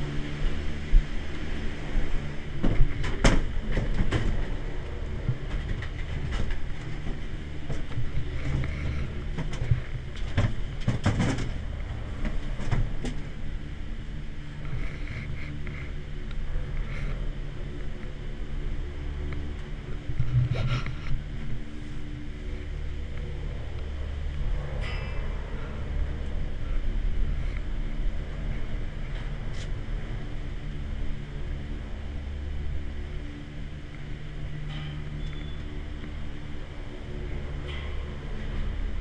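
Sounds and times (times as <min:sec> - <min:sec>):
gondola machinery humming: 0:00.0 - 0:39.0.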